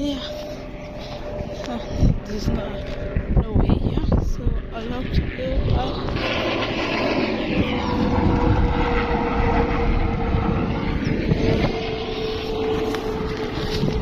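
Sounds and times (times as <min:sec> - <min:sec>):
steady motor hum: 0:00.0 - 0:14.0
wind noise on microphone: 0:00.0 - 0:14.0.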